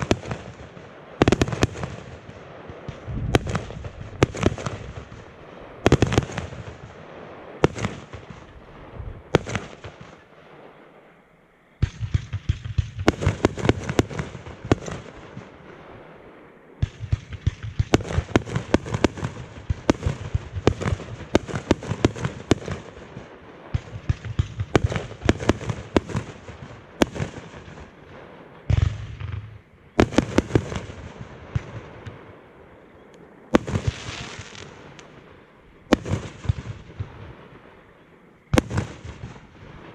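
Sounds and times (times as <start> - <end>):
fireworks bangs and crackling: 0.0 - 11.2, 11.8 - 39.9.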